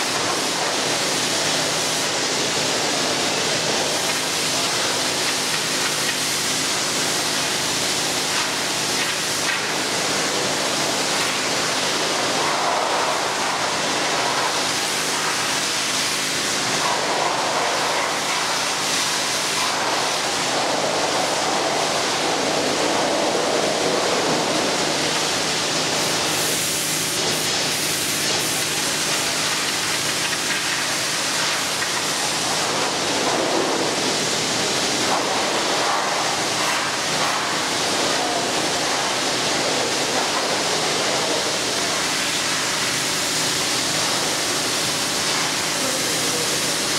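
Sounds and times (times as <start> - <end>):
pressure washer spray hissing: 0.0 - 46.9
pump motor humming: 0.0 - 46.9.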